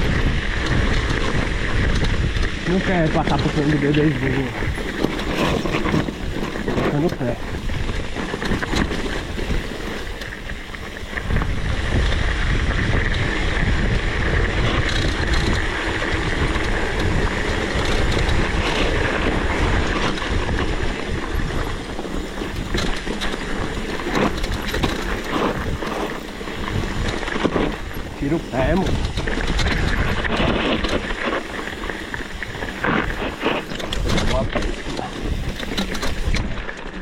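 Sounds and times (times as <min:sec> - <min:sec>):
mini motorcycle engine running: 0:00.0 - 0:36.8
wind buffeting microphone: 0:00.0 - 0:37.0.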